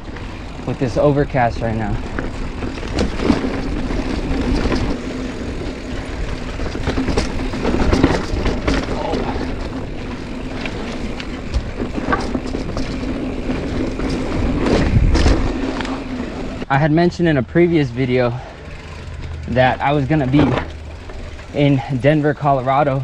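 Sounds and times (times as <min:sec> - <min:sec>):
bike clicks and knocks: 0:00.0 - 0:16.6, 0:18.3 - 0:22.8
bike rumbling on dirt trail: 0:00.0 - 0:23.0.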